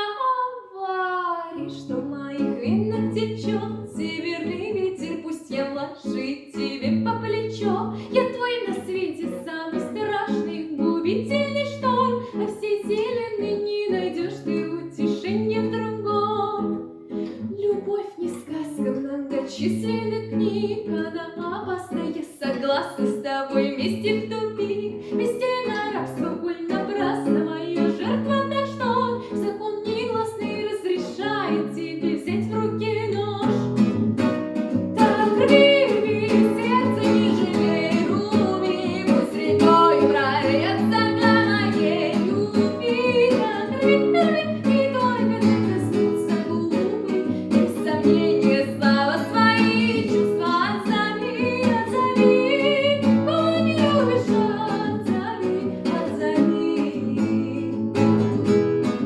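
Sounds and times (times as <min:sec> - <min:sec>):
woman singing pop song: 0:00.0 - 0:34.0, 0:35.0 - 0:58.5
guitar: 0:00.0 - 0:59.0.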